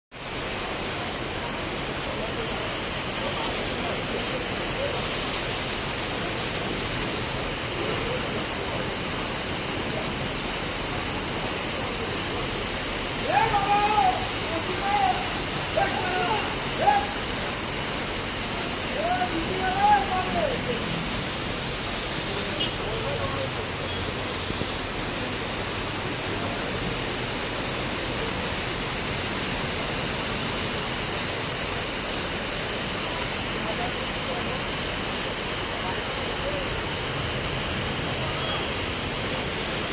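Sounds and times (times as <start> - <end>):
heavy rain on a flooded street: 0.1 - 39.9.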